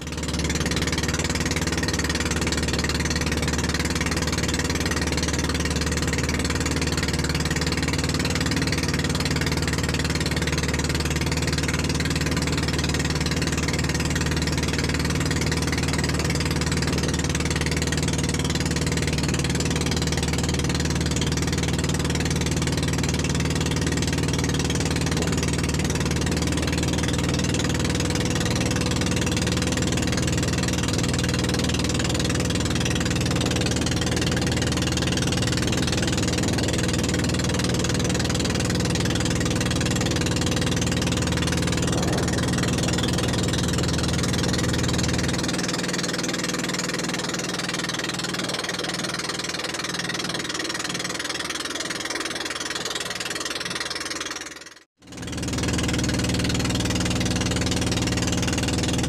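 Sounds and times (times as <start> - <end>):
boat motor droning: 0.0 - 59.0.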